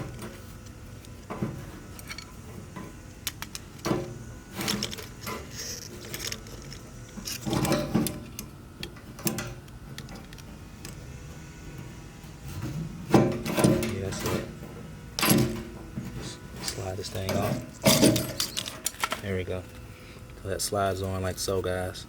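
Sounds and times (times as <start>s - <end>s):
fuel pump parts clicking and clattering: 0.0s - 11.1s, 11.8s - 20.5s.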